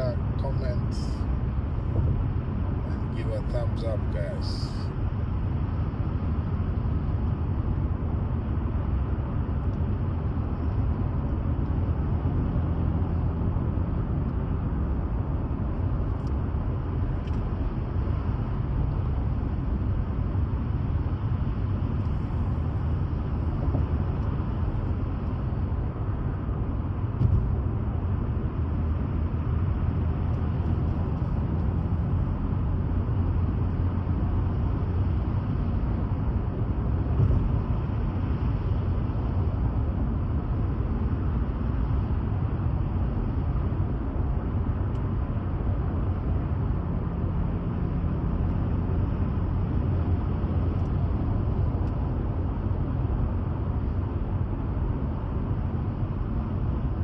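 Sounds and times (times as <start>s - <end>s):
motor vehicle rumbling: 0.0s - 57.0s.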